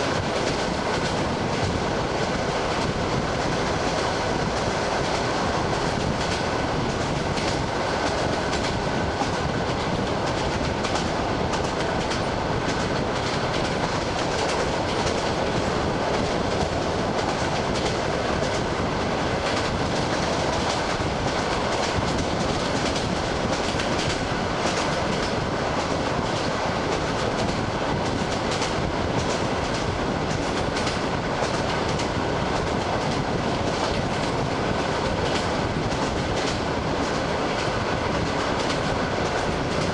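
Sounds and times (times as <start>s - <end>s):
train rolling rumble: 0.0s - 39.9s
train wheels clicking over rail joints: 0.0s - 39.9s.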